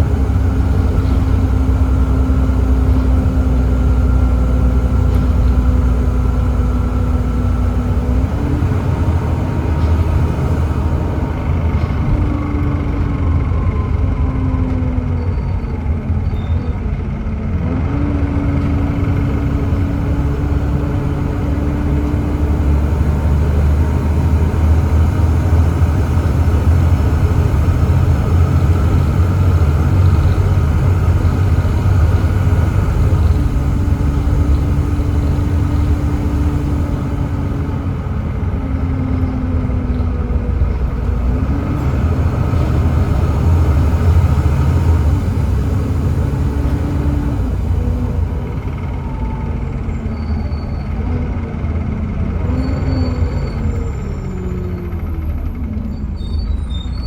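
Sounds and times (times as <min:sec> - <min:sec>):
bus diesel engine rumbling: 0:00.0 - 0:57.0.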